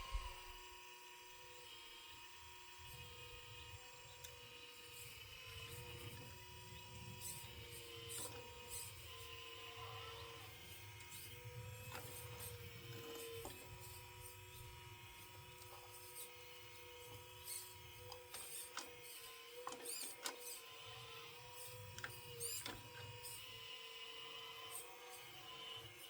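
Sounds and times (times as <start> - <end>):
small electric motors whining: 0.0 - 26.0.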